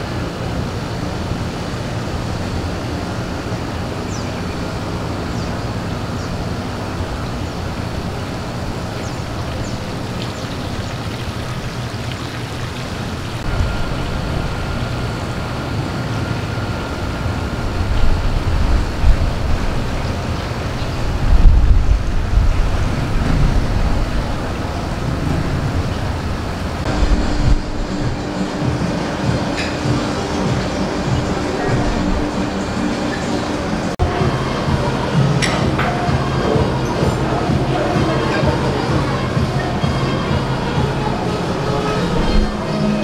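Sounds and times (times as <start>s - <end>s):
outdoor hum and hiss: 0.0s - 43.0s
wind rumbling on microphone: 0.0s - 43.0s.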